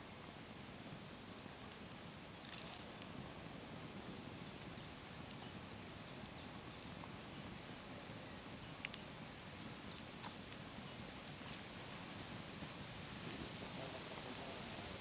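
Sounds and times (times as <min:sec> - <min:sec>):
campfire hissing: 0:00.0 - 0:15.0
fire crackles and pops: 0:00.0 - 0:15.0.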